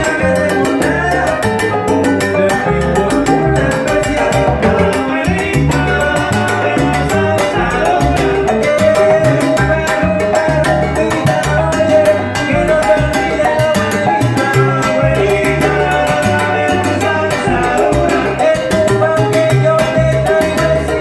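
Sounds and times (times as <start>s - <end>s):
percussion pattern: 0.0s - 21.0s
salsa band playing: 0.0s - 21.0s
walking bass line: 0.0s - 21.0s.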